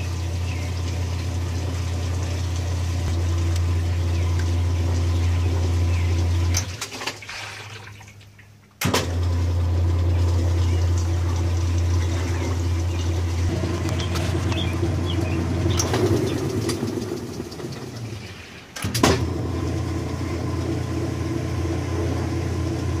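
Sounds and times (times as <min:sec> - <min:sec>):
washing machine humming: 0:00.0 - 0:23.0.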